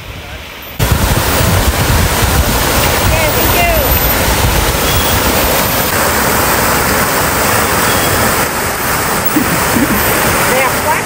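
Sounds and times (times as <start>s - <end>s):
fountain water splashing into pool: 0.0s - 11.0s.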